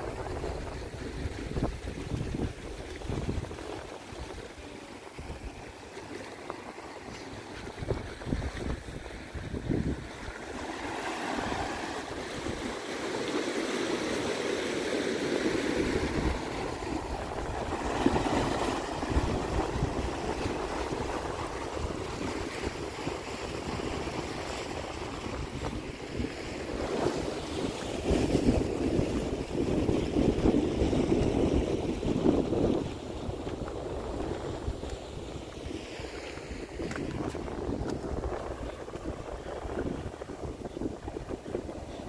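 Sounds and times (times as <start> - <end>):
wind buffeting microphone: 0.0 - 6.1, 7.0 - 13.0, 15.4 - 42.0
surf breaking over rocks: 0.0 - 42.0.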